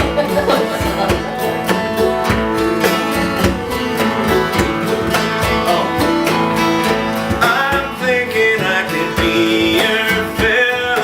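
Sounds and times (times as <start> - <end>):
acoustic country band playing: 0.0 - 11.0.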